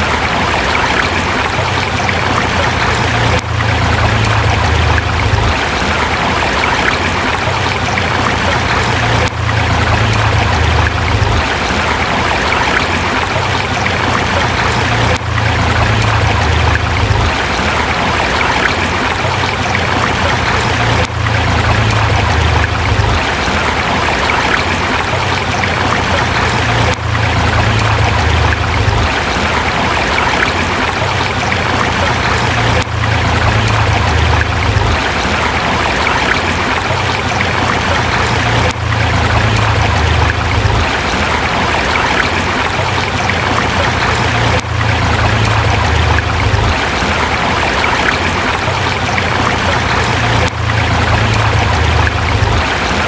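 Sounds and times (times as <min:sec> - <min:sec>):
river rushing over rocks: 0:00.0 - 0:53.0.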